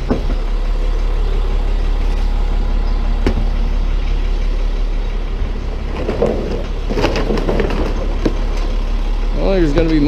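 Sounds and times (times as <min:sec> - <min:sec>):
rattling: 0:00.0 - 0:10.0
truck engine idling: 0:00.0 - 0:10.0.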